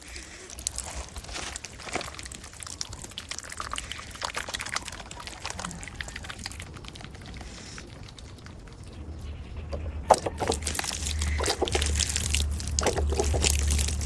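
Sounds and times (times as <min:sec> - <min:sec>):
water pouring and splashing: 0:00.0 - 0:08.7, 0:09.8 - 0:14.0.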